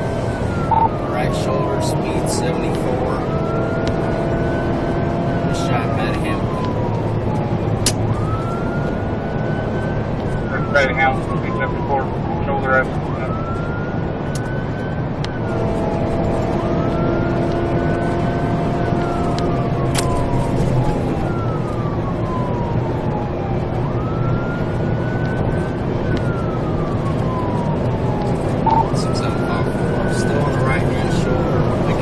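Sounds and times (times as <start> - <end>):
car road and engine noise: 0.0 - 32.0
police siren wailing: 0.0 - 32.0.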